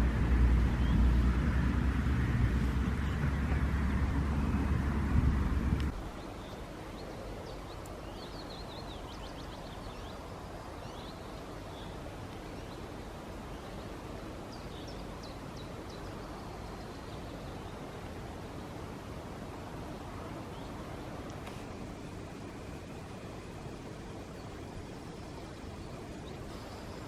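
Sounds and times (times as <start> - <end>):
songbirds chirping and trilling: 0.0 - 27.0
steady background hiss: 0.0 - 27.0.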